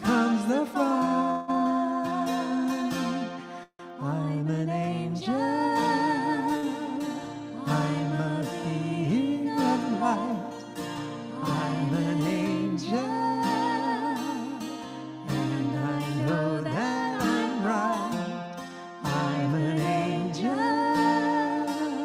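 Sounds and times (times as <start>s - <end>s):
strummed acoustic guitar: 0.0s - 22.0s
woman and man singing: 0.0s - 22.0s.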